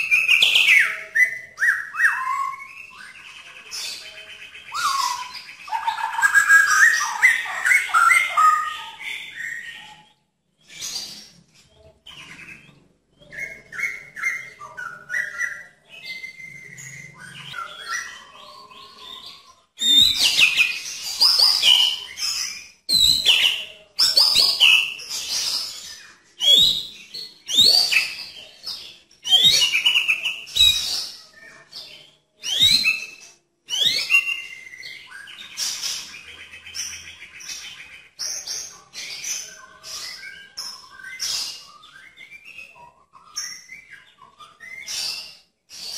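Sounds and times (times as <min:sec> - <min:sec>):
songbird singing: 0:00.0 - 0:45.6.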